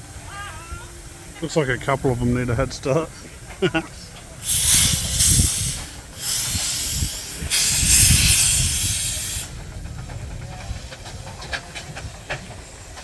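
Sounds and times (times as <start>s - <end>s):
steam engine hissing: 0.0s - 13.0s.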